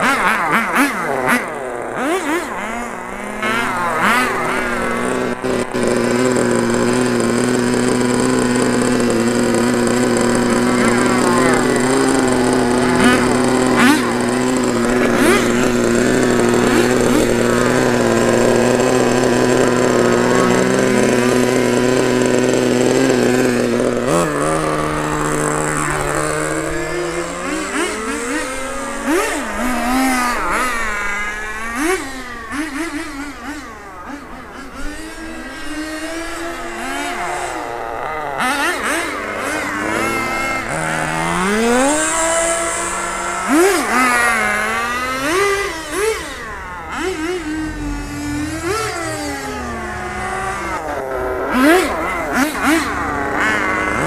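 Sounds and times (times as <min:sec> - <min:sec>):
small model car engine revving: 0:00.0 - 0:54.0.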